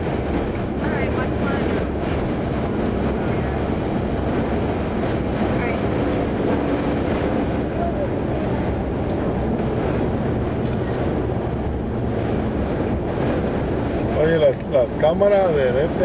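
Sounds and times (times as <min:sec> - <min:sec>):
tyre and engine drone: 0:00.0 - 0:16.0
wind noise: 0:00.0 - 0:16.0.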